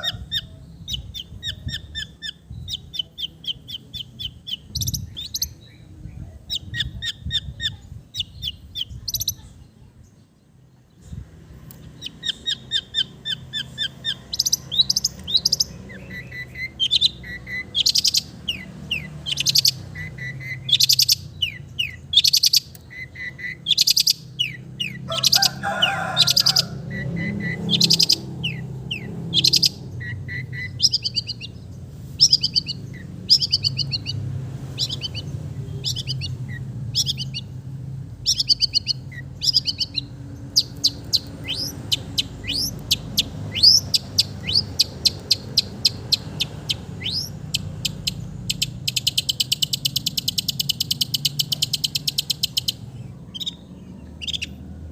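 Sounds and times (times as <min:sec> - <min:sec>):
shrike singing trills and mimicry: 0:00.0 - 0:54.9.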